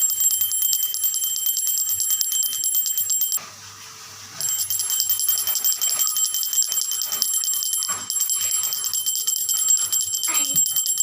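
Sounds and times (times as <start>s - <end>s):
hand bell rung rapidly: 0.0s - 3.4s, 4.4s - 11.0s.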